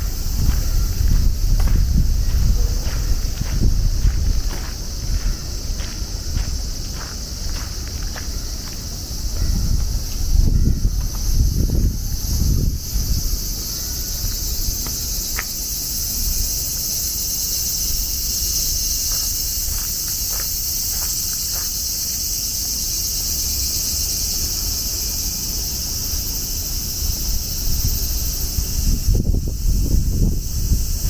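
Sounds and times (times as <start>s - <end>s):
wind rumble on microphone: 0.0s - 21.1s, 26.1s - 31.0s
cicadas buzzing: 0.0s - 31.0s.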